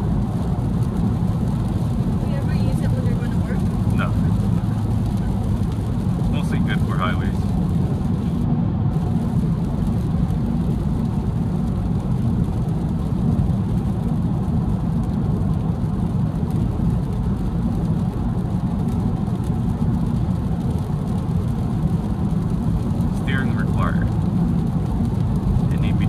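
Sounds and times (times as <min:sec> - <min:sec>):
road and tyre noise in car: 0:00.0 - 0:26.0.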